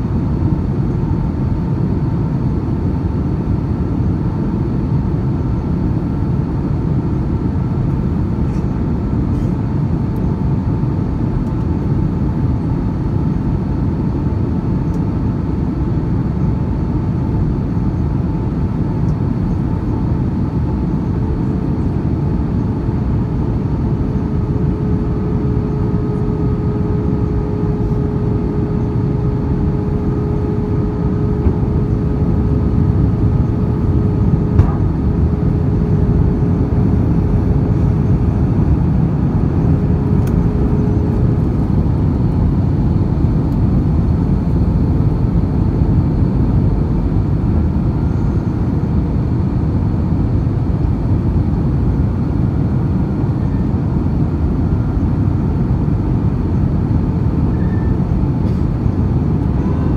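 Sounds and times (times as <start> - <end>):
airliner cabin rumble: 0.0 - 59.9
steady hum: 0.0 - 59.9.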